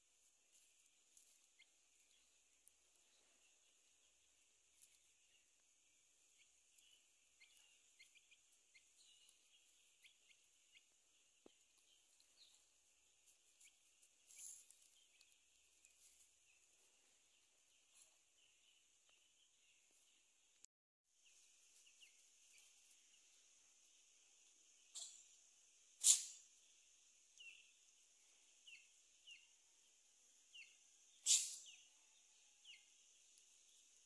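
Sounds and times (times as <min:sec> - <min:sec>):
faint high ticks and chirps: 0:00.0 - 0:34.0.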